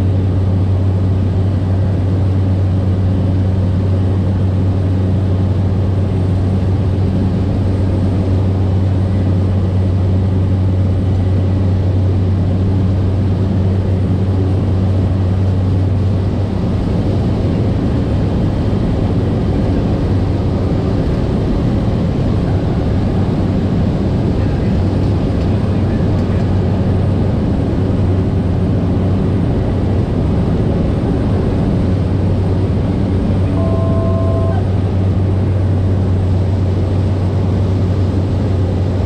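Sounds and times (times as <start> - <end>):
turboprop engine droning: 0.0 - 39.0.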